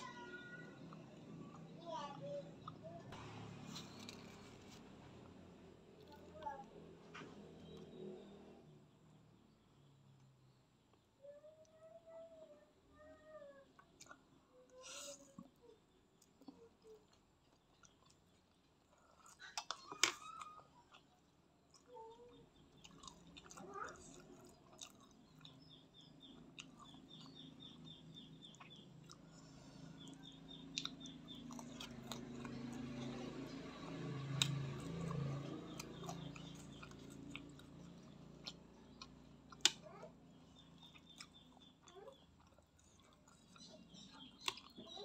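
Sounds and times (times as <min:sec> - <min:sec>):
close chewing and mouth sounds: 0:00.0 - 0:08.6, 0:13.6 - 0:45.0.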